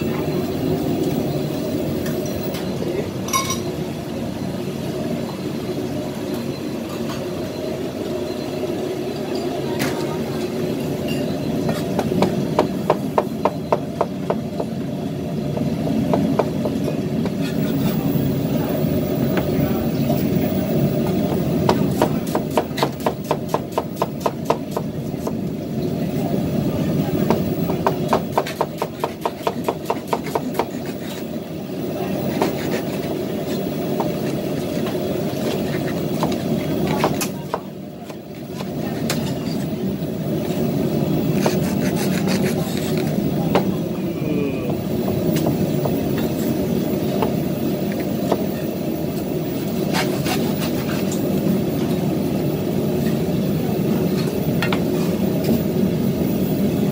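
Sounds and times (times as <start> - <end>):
steady background hum: 0.0 - 56.9.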